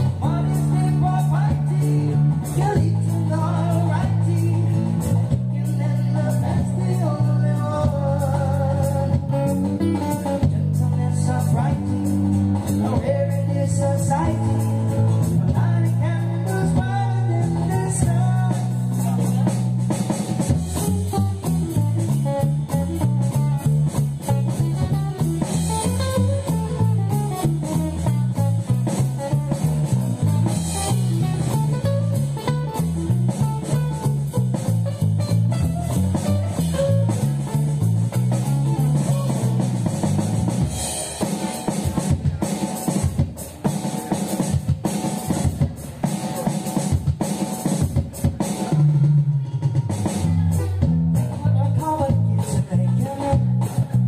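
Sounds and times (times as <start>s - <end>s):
bass guitar line: 0.0s - 54.0s
drum kit: 0.0s - 54.0s
guitar: 0.0s - 54.0s.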